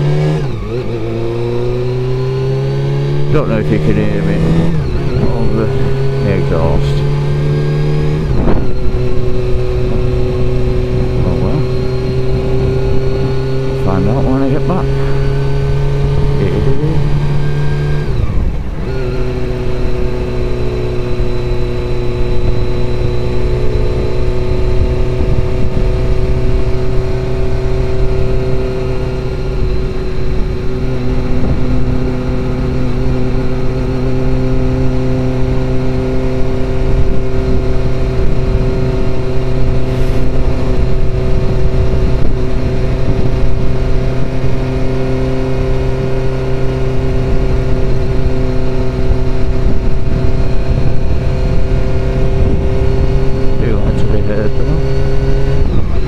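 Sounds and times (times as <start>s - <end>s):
motorcycle engine running: 0.0s - 56.0s
wind noise on microphone: 4.4s - 56.0s.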